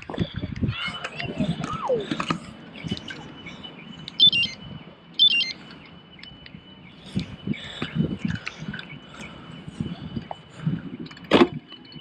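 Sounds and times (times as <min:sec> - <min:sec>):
high electronic beeps: 0:00.2 - 0:12.0.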